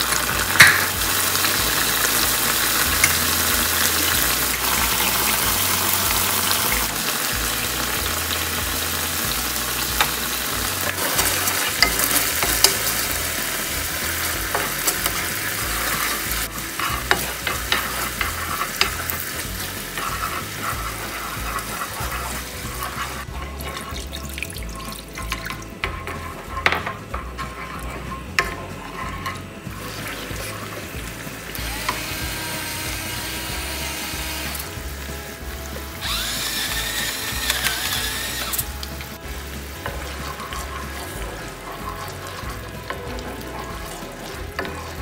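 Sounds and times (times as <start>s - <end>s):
wooden spatula scraping a pan: 0.0s - 31.6s, 36.7s - 45.0s
vegetables sizzling in hot oil: 0.0s - 45.0s.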